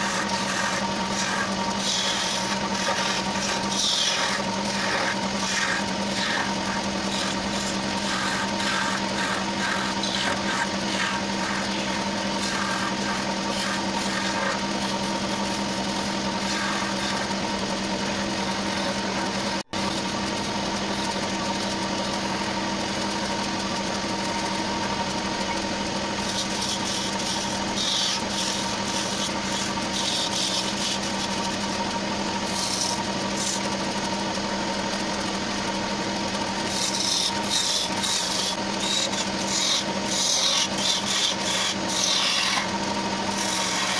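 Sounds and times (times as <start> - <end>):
gouge scraping spinning wood: 0.0 - 43.9
lathe motor humming: 0.0 - 43.9.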